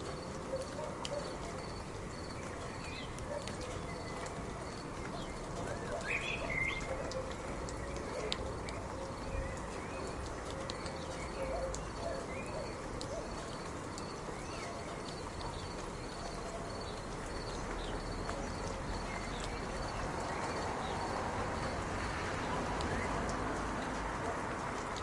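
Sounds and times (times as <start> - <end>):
rain hiss: 0.0 - 25.0.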